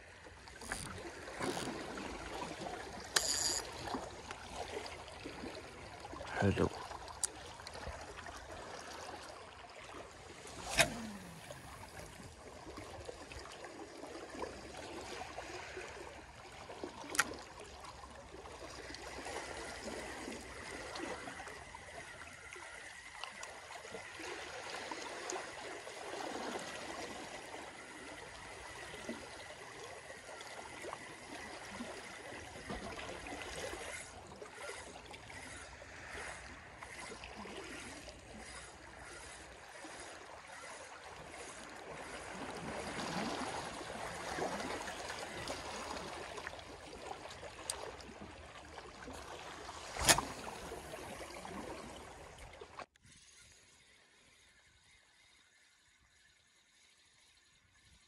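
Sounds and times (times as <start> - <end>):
small waves lapping on rocks: 0.0 - 55.0.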